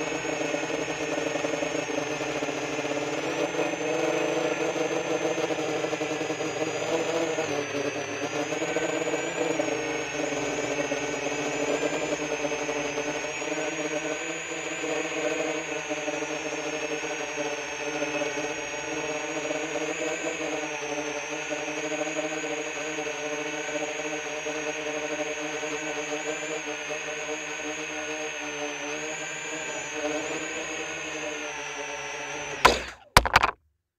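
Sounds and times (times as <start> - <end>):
quadcopter propellers whirring: 0.0 - 33.5.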